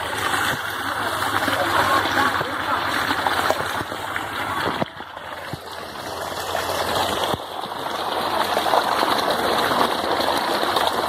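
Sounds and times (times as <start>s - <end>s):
water gushing from tree trunk: 0.0s - 11.0s.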